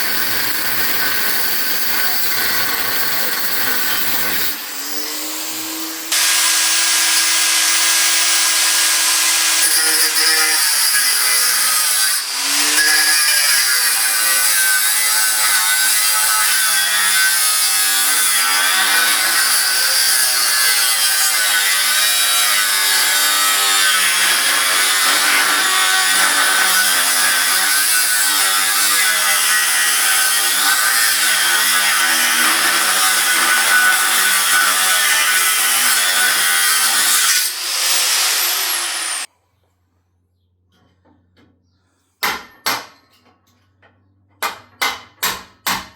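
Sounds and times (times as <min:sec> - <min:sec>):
power tool grinding steel: 0:00.0 - 0:39.3.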